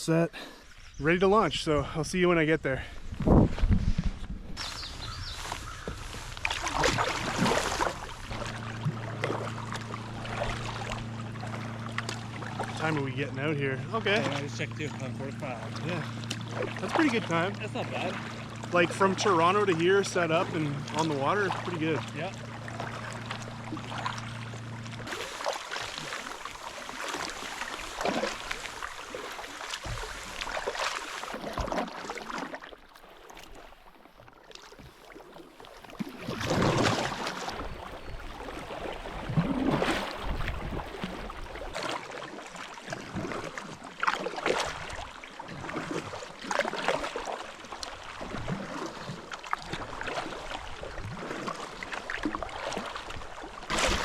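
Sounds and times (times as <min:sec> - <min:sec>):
paddle splashing lake water: 0:00.4 - 0:54.0.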